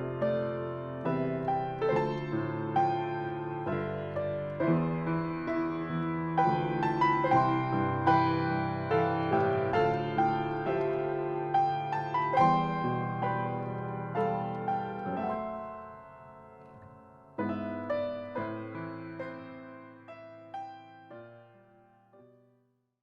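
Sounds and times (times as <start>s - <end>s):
slow gentle piano piece: 0.0s - 22.7s.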